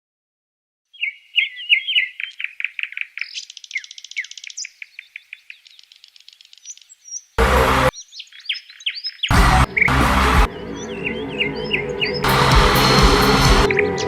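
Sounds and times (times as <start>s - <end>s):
birds chirping: 0.9s - 14.0s.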